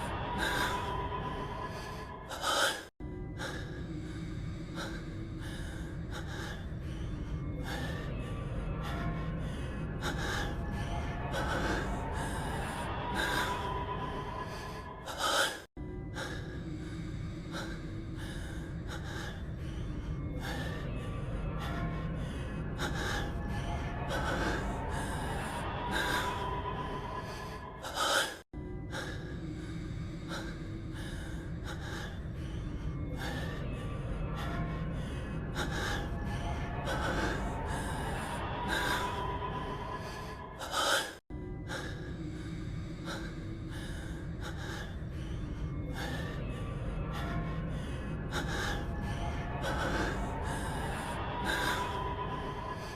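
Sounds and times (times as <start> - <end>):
music: 0.0 - 52.9.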